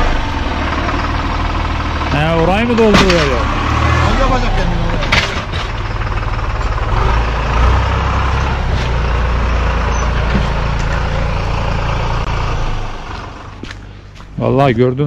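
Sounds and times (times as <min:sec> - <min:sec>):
heavy machine engine rumbling: 0:00.0 - 0:15.0.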